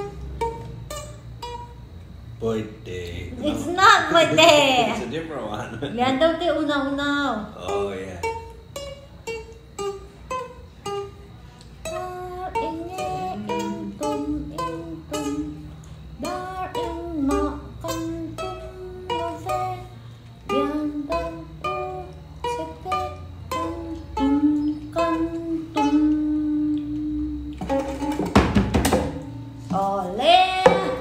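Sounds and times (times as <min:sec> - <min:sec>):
ukulele strumming: 0:00.0 - 0:31.0.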